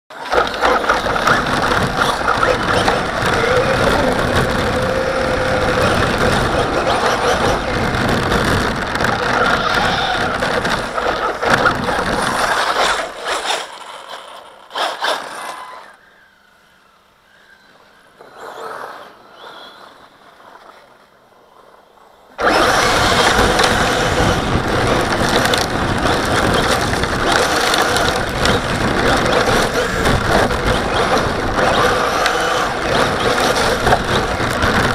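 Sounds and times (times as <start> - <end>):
rc car driving over snow: 0.1 - 34.9.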